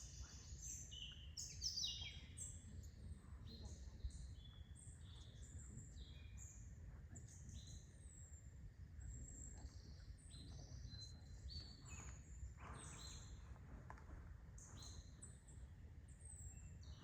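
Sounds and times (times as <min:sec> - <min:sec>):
small birds chirping: 0:00.0 - 0:17.0
faint low rumble: 0:02.1 - 0:16.9.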